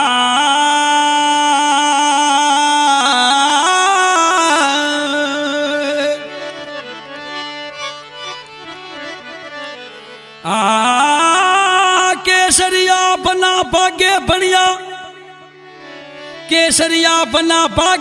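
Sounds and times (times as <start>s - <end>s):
folk melody: 3.3s - 18.0s.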